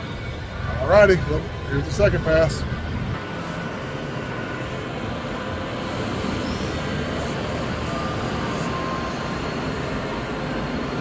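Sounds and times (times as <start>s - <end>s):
machinery rumble with hiss: 0.0s - 11.0s.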